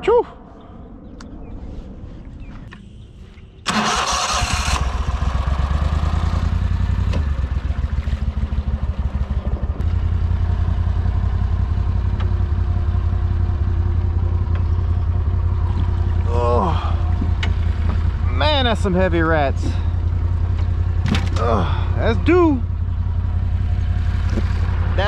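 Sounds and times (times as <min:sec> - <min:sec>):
boat motor running: 0:04.8 - 0:25.0.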